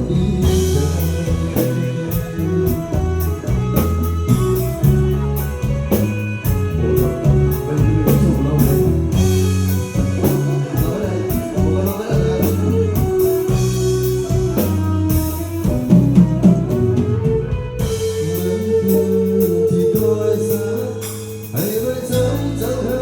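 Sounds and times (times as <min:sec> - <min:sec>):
bass guitar: 0:00.0 - 0:23.0
drum kit steady beat: 0:00.0 - 0:23.0
electric guitar: 0:00.0 - 0:23.0.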